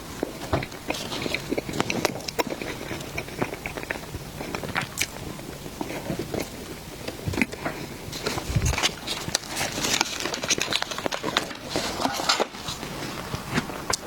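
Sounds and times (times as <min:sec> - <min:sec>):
person chewing dessert: 0:00.0 - 0:14.0.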